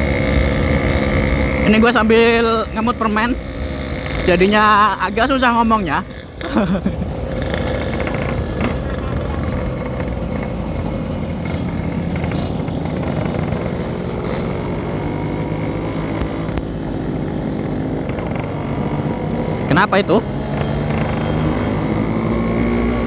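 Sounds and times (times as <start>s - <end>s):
two-stroke motorcycle engine running: 0.0s - 23.0s.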